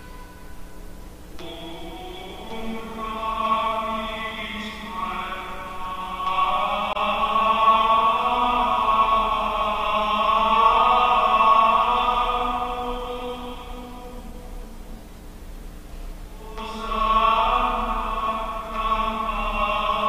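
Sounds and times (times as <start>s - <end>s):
chant-like church music: 0.0s - 15.0s, 16.2s - 20.0s.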